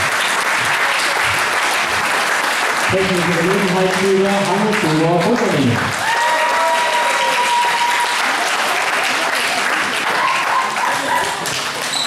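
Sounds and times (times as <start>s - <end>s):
spectators applauding: 0.0s - 12.0s.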